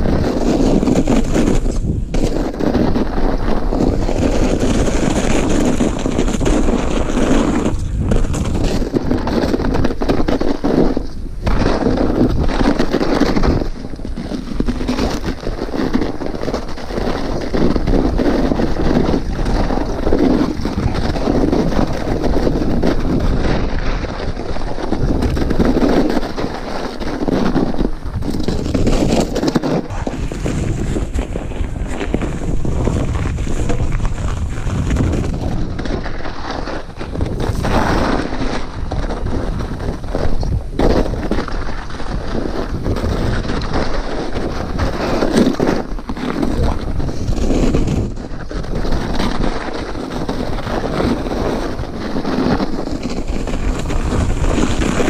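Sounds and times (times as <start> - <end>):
bike rattling over bumps: 0.0 - 55.0
tyres on snow: 0.0 - 55.0
wind rushing on microphone: 0.0 - 55.0.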